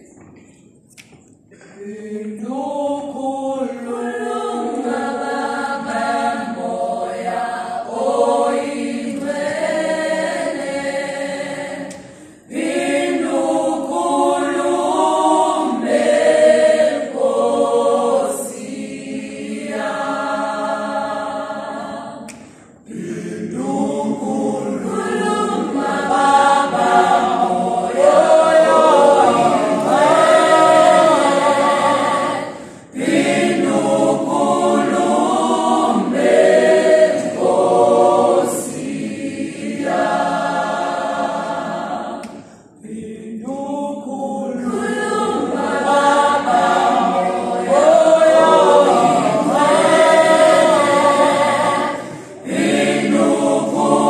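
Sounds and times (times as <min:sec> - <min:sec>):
choir singing a cappella: 0:01.5 - 0:54.0.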